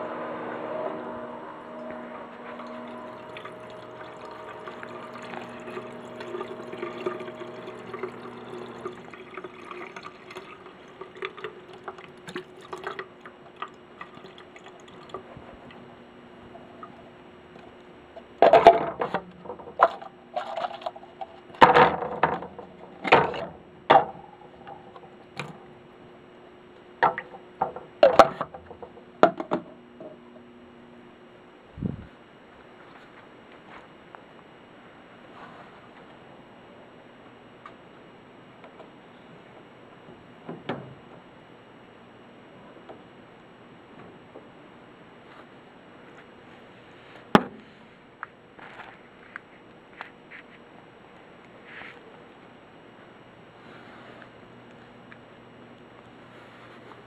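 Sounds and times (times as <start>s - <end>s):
steady pump hum: 0.0s - 57.0s.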